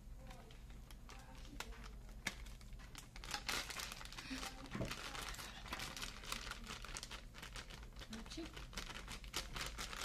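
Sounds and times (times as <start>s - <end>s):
foil pouch crinkling: 0.2s - 10.0s.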